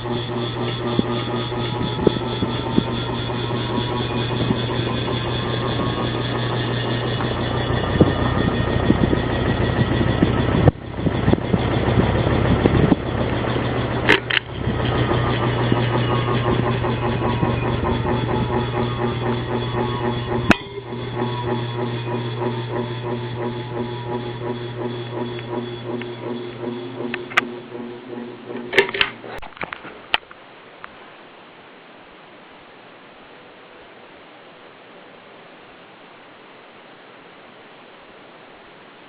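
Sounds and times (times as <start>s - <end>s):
ceiling fan humming and whirring: 0.0s - 39.0s.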